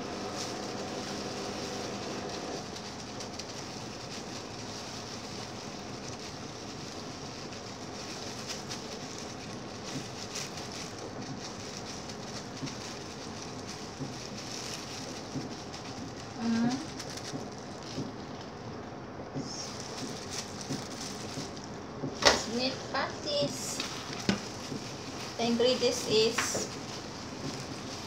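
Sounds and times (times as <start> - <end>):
hands kneading wet minced meat: 0.0 - 28.0
plastic gloves crinkling: 0.0 - 28.0
steady background hiss: 0.0 - 28.0.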